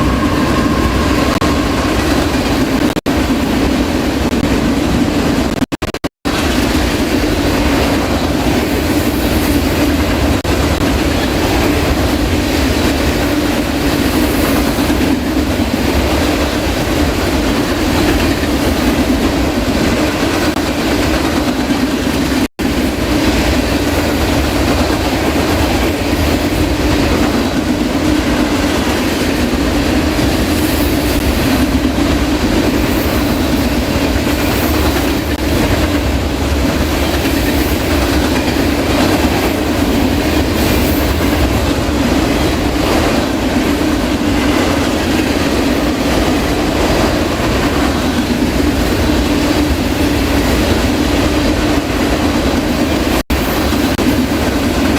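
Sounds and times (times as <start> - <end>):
freight train wheels rumbling: 0.0 - 5.7, 6.3 - 54.9
clickety-clack of train cars: 0.0 - 54.9.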